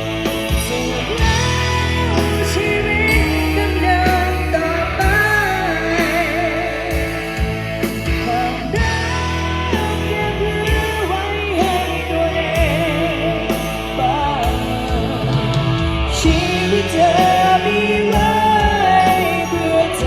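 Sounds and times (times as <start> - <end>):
bass guitar: 0.0 - 20.0
drums: 0.0 - 20.0
electric guitar: 0.0 - 20.0
person singing: 0.0 - 20.0.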